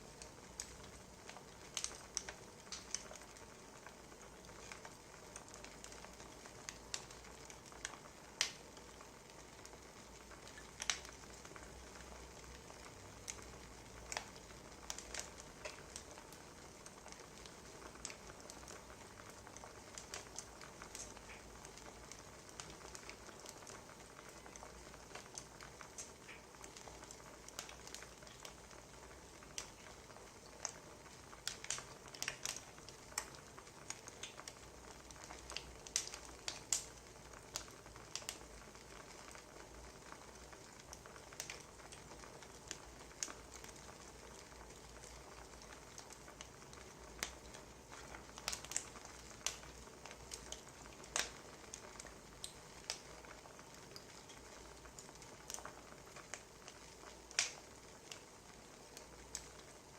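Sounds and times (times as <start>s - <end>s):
fire popping and snapping: 0.0s - 59.9s
soft hiss of fire: 0.0s - 59.9s.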